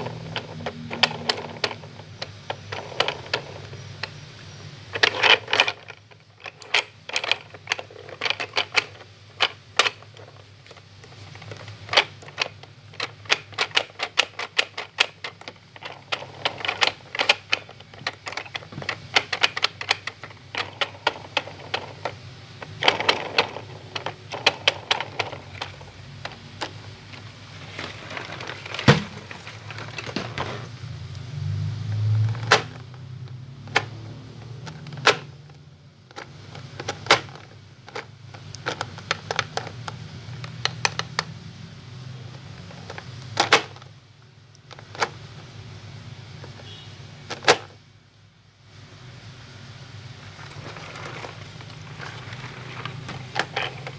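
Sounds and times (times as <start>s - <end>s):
plastic toy parts clicking: 0.0s - 4.2s, 4.9s - 30.5s, 32.2s - 33.0s, 33.6s - 41.4s, 42.2s - 45.3s, 47.3s - 47.8s, 50.3s - 53.9s.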